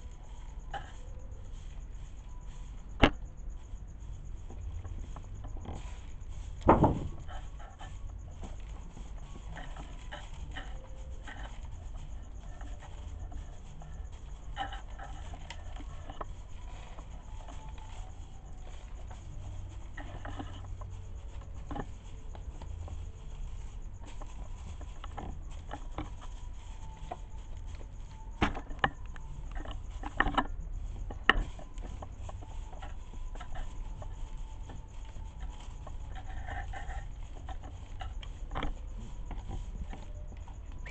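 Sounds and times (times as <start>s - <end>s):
duckling pecking on tiles: 6.6s - 40.9s.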